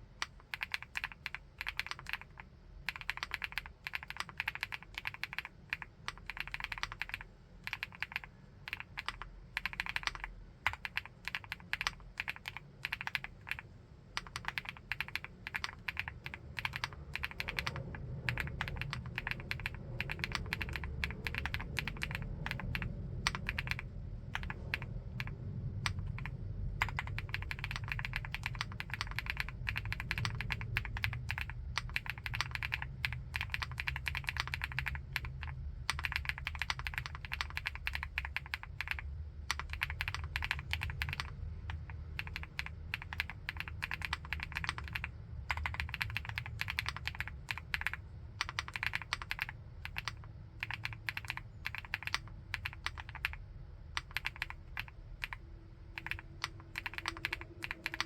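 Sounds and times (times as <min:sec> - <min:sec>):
keyboard typing: 0:00.2 - 0:58.0.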